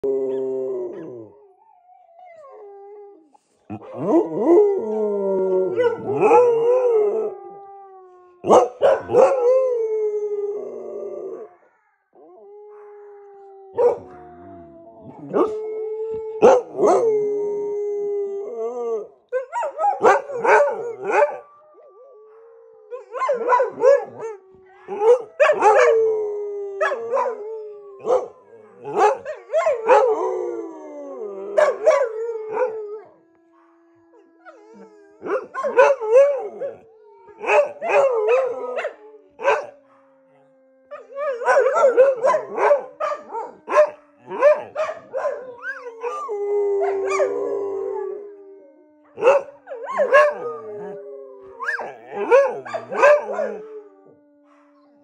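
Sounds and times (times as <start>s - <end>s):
dogs howling: 0.0s - 55.0s.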